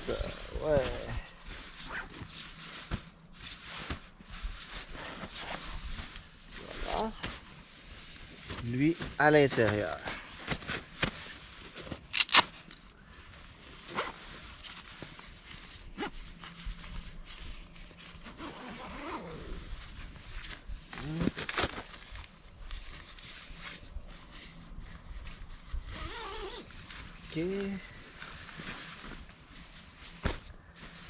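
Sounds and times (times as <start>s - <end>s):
nylon sleeping bags rustling: 0.0s - 31.0s.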